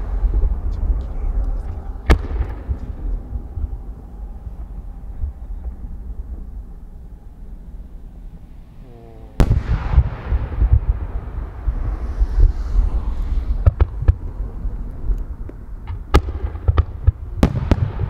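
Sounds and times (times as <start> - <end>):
echoing rumble: 0.0 - 18.0.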